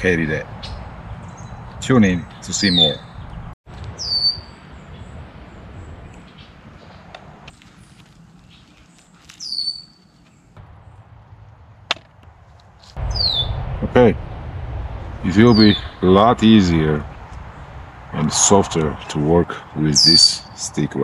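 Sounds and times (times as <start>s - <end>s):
wild birds calling: 0.0s - 11.0s, 13.0s - 21.0s
outdoor background noise: 0.0s - 21.0s.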